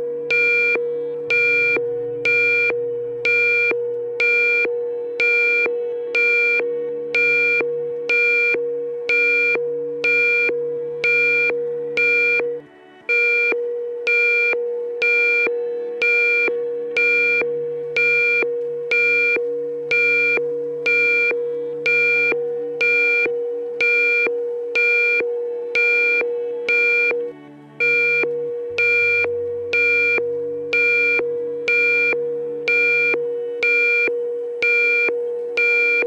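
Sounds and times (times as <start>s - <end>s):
steady low drone: 0.0s - 36.0s
electronic alarm beeps: 0.3s - 12.5s, 13.1s - 36.0s.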